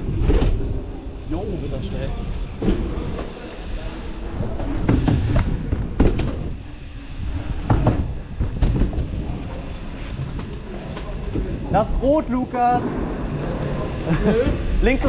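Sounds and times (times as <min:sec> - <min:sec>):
bike rattling: 0:00.0 - 0:15.0
bike tyres rumbling: 0:00.0 - 0:15.0.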